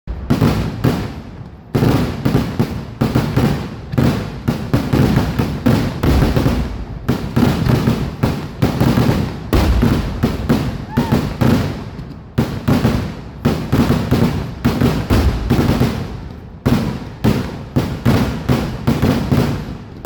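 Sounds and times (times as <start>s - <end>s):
fireworks bangs with rumbling echo: 0.1s - 20.0s.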